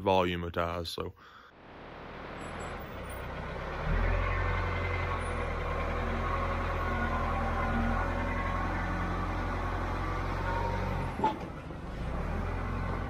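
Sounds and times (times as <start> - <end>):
wheel loader engine running: 1.6 - 13.0.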